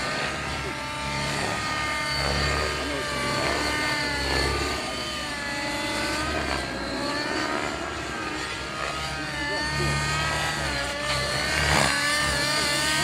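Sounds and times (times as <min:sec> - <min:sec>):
rc helicopter motor whine: 0:00.0 - 0:13.0.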